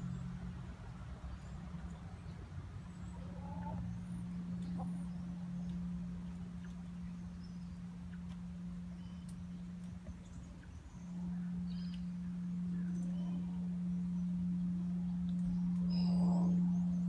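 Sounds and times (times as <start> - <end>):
small birds chirping: 0.0 - 17.0
steady low hum: 0.0 - 17.0
soft bird call: 3.0 - 17.0.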